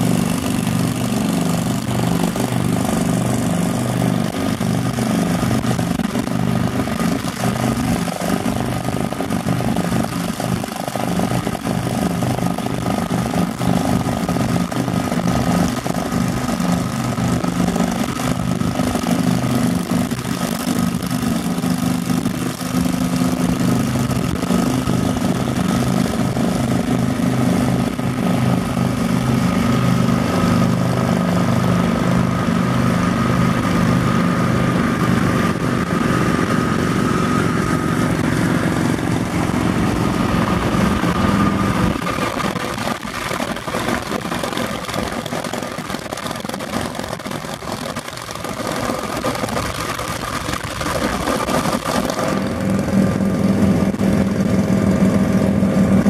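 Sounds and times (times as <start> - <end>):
motorcycle engine drone: 0.0 - 56.0
wind and road noise: 0.0 - 56.0.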